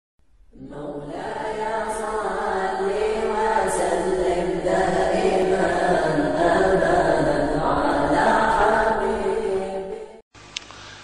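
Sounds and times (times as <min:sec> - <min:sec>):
unaccompanied vocal chanting: 0:00.5 - 0:10.2.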